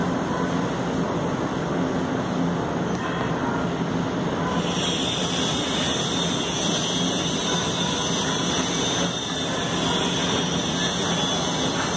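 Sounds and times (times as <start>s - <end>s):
steady mechanical hum: 0.0s - 11.9s.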